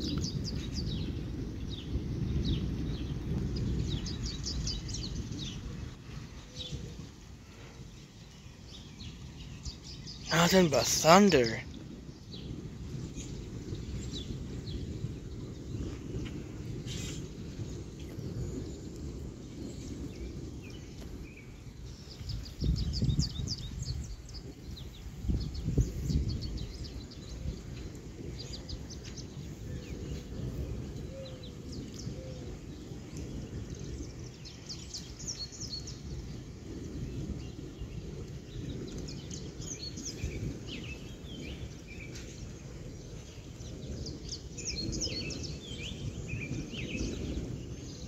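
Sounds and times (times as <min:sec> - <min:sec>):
small birds chirping: 0:00.0 - 0:48.0
thunder rumbling: 0:00.0 - 0:48.0.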